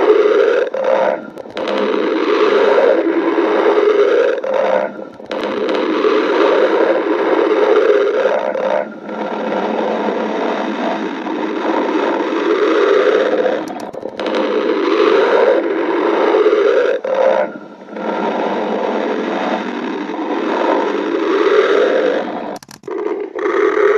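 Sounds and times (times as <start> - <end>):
stomach growling: 0.0 - 23.9.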